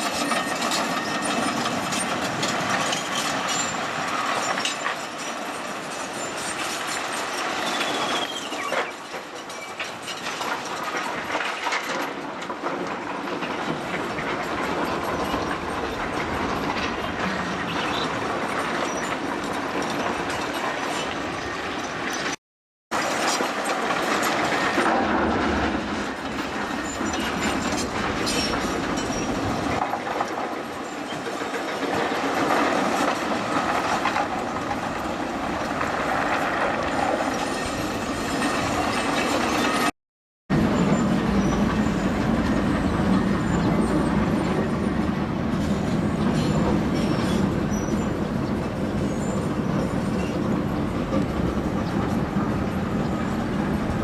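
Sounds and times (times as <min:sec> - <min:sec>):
train wheels clattering on rails: 0:00.0 - 0:39.9, 0:40.5 - 0:54.0.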